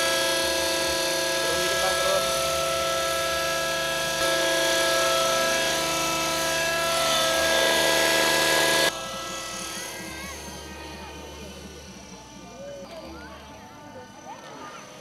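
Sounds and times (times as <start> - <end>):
model helicopter engine running: 0.0 - 15.0
rotor whine: 0.0 - 15.0.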